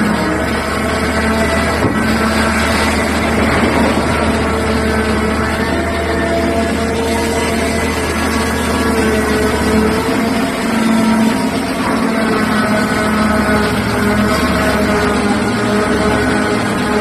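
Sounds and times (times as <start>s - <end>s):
excavator engines droning: 0.0s - 17.0s.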